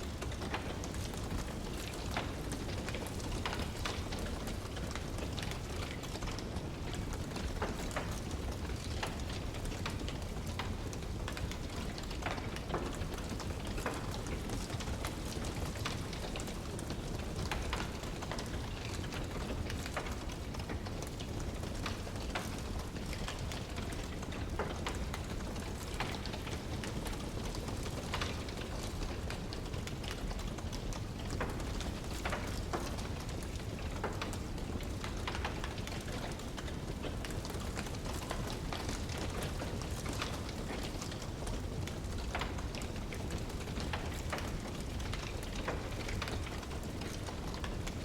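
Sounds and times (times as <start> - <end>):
low fire rumble: 0.0 - 48.0
wood fire crackling: 0.0 - 48.0.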